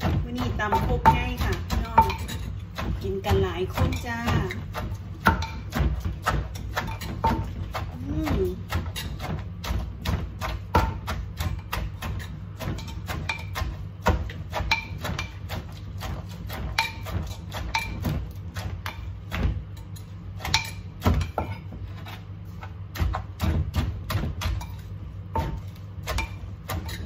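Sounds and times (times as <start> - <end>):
wooden pestle pounding in mortar: 0.0 - 27.0.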